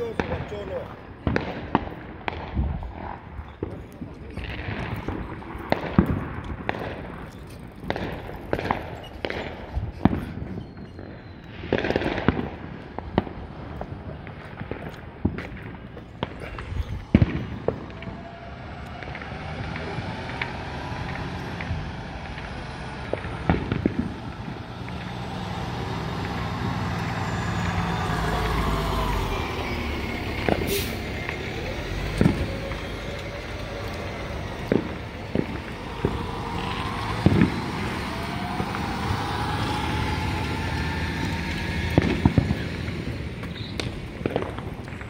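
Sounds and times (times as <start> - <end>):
firework bangs: 0.0 - 45.0
vehicle engines passing: 0.0 - 45.0.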